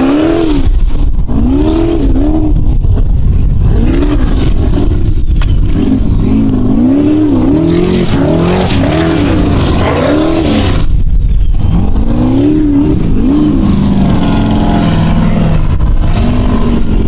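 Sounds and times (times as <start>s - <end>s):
buggy engine revving hard: 0.0s - 17.0s
loud rushing noise: 0.0s - 17.0s.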